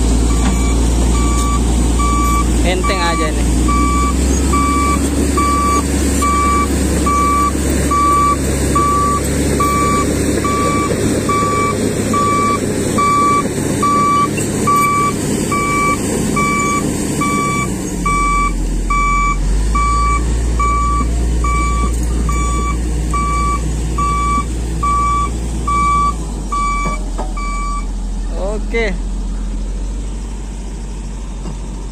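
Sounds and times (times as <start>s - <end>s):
bulldozer diesel engine running: 0.0s - 31.9s
reversing alarm beeping: 0.3s - 27.9s.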